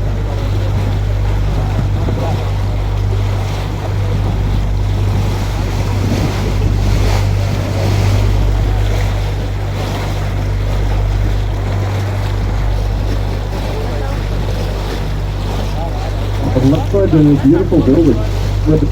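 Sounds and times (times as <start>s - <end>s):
boat motor humming: 0.0s - 18.9s
wind buffeting microphone: 0.0s - 18.9s.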